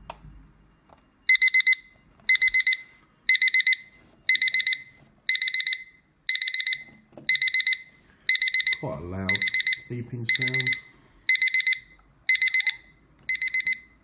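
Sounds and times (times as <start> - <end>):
alarm clock beeping: 1.2 - 14.0.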